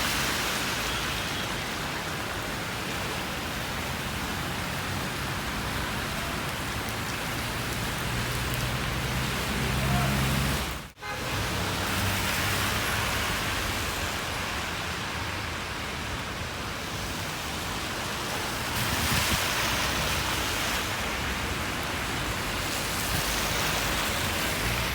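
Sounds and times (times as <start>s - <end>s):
heavy rain hissing: 0.0s - 24.9s.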